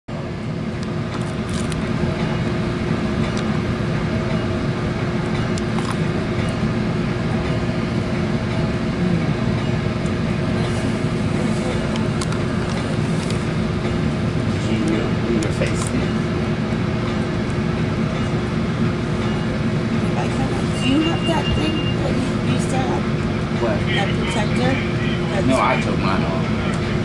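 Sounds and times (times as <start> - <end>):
train car rumble: 0.1 - 27.0.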